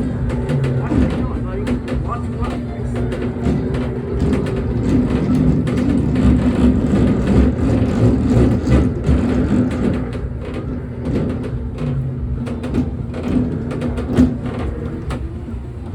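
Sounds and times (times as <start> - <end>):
clicks and knocks: 0.0 - 15.9
kiddie ride engine-like rumble: 0.0 - 15.9.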